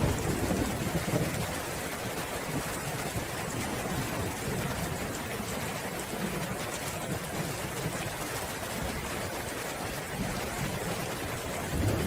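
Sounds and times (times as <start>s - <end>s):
low rumble of thunder: 0.0s - 8.9s, 9.8s - 12.0s
steady rain falling: 0.0s - 12.0s.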